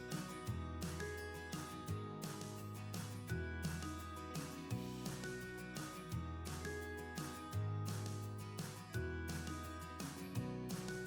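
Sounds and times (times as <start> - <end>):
guitar-led instrumental music: 0.0 - 11.0.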